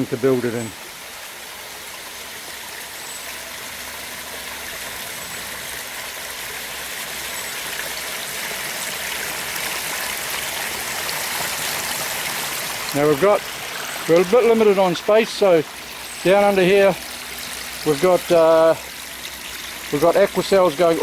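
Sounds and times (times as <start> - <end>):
waterfall rushing and splashing: 0.0 - 21.0.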